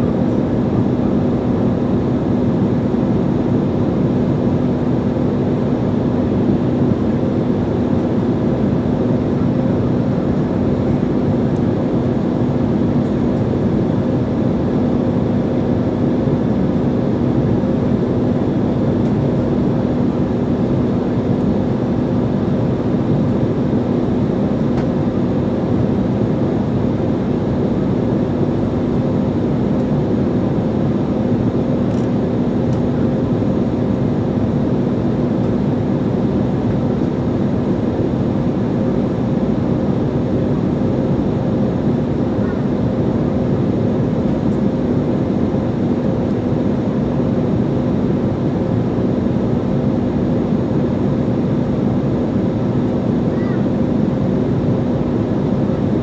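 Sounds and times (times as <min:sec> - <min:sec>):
constant low hum: 0:00.0 - 0:56.0
jet engine and airflow rush: 0:00.0 - 0:56.0.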